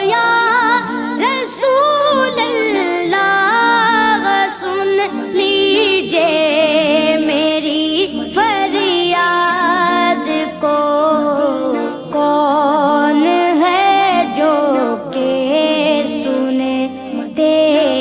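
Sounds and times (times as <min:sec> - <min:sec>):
high voice singing devotional song: 0:00.0 - 0:18.0.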